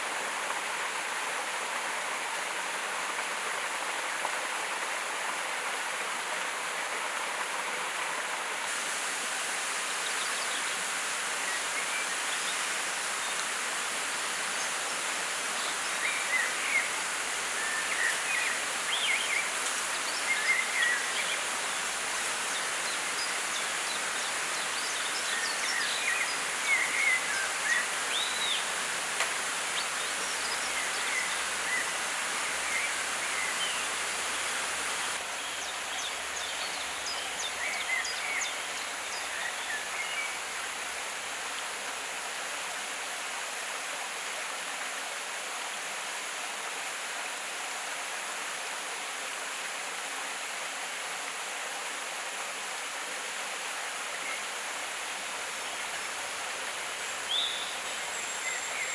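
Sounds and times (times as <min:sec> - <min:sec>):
forest stream flowing: 0:00.0 - 0:58.9.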